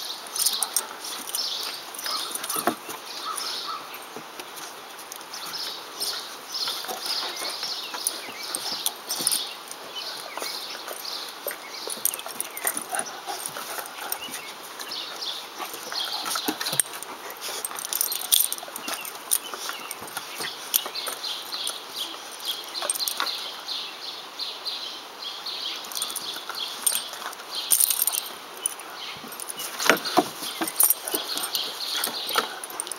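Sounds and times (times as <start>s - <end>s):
dog vocal sounds: 0.4s - 3.9s, 4.7s - 23.3s, 25.9s - 32.9s
paws scuffling on wooden boards: 0.4s - 23.4s, 25.9s - 32.9s.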